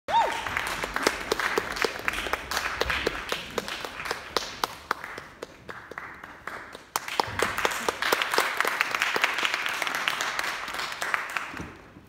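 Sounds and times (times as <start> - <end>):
audience applauding: 0.1 - 12.0.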